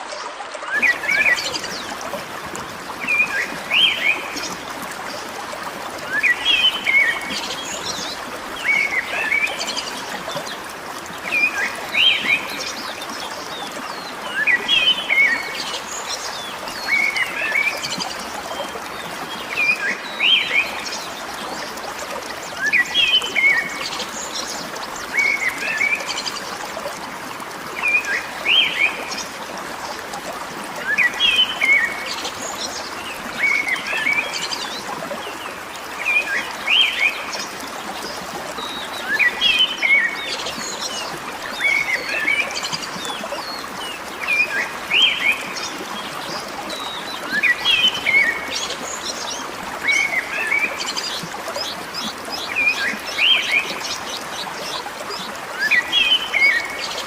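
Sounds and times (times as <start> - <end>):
running water: 0.0 - 57.0.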